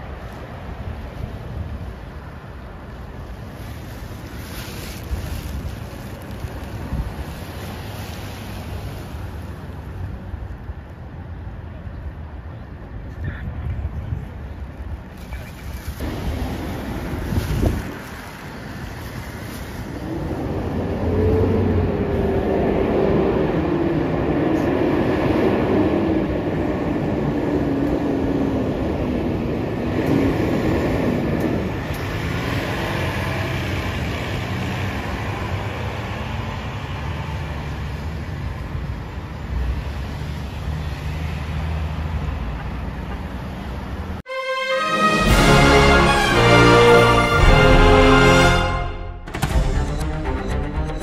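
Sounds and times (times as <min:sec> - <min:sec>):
fire truck diesel engines: 0:00.0 - 0:48.8.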